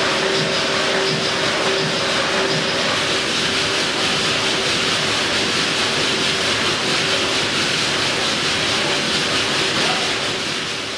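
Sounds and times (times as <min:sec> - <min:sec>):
diesel engine driving machinery: 0:00.0 - 0:10.9
fast dense mechanical ticking: 0:00.0 - 0:10.9.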